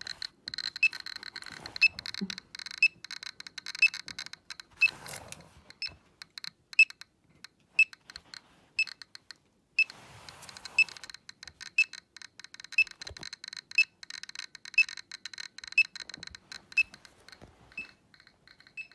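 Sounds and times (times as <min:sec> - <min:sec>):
geiger counter clicking: 0:00.0 - 0:04.9, 0:05.7 - 0:09.9, 0:10.8 - 0:18.9.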